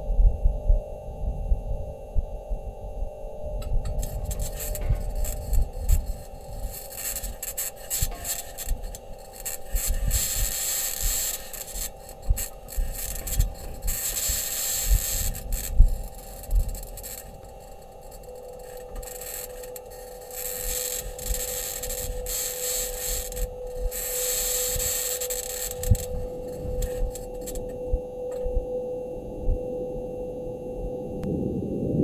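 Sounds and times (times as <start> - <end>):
steady tones: 3.2 - 32.0.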